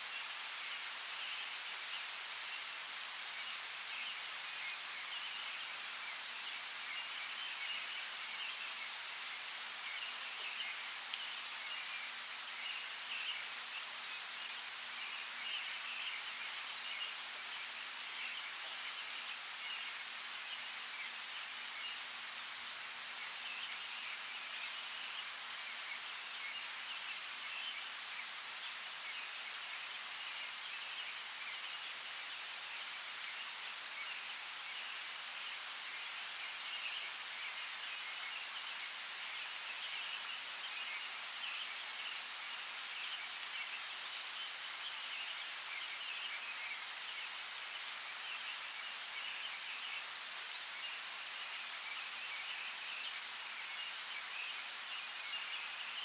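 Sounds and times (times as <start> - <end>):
small birds chirping faintly: 0.0 - 56.0
steady rain falling: 0.0 - 56.0.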